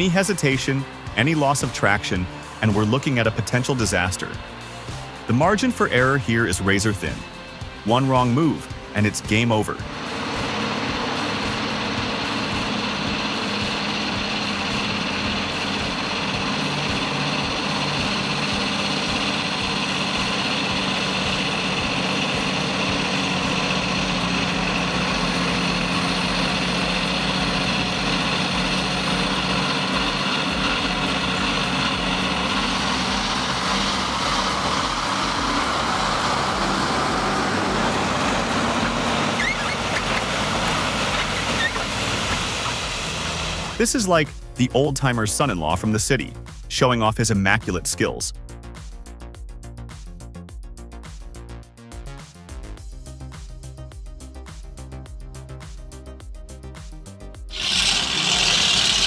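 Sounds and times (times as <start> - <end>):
off-road vehicle engine running: 0.0 - 47.8, 57.2 - 59.0.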